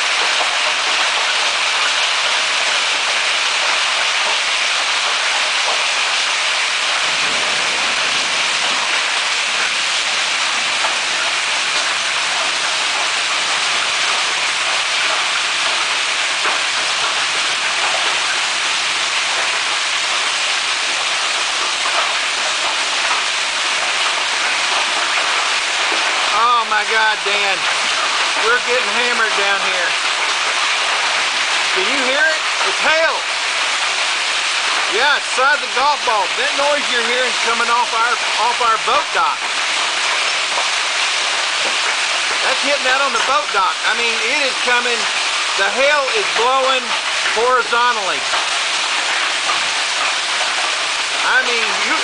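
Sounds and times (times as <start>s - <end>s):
hail clattering: 0.0s - 52.0s.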